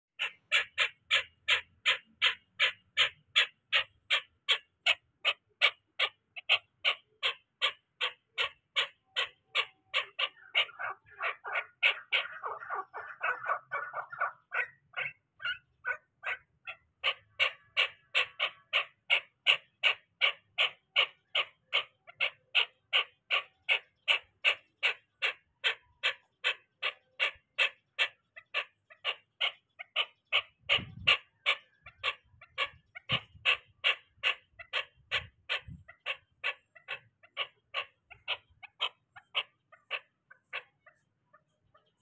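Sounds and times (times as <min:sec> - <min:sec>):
partridge calling: 0:00.2 - 0:42.0.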